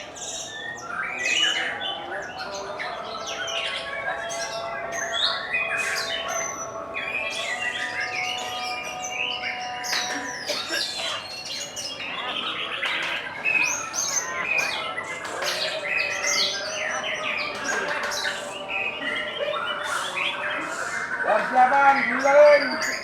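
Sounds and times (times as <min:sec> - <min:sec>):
songbirds singing: 0:00.0 - 0:23.0.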